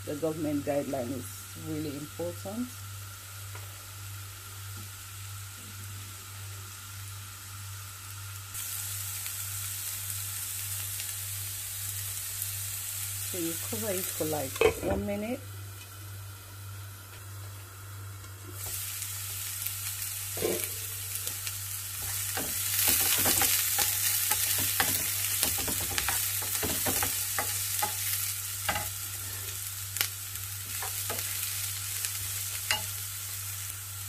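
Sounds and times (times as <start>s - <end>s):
vegetables sizzling in oil: 0.0s - 34.0s.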